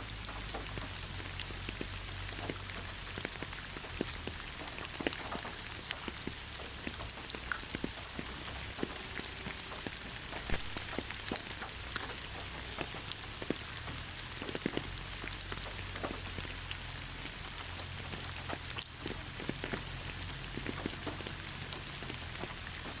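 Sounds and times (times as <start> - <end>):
drops ticking and splashing: 0.0 - 23.0
steady rainfall hiss: 0.0 - 23.0.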